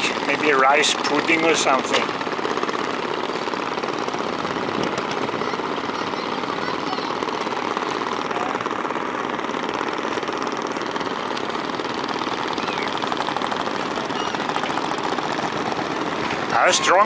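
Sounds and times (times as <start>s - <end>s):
small boat engine puttering: 0.0s - 17.0s.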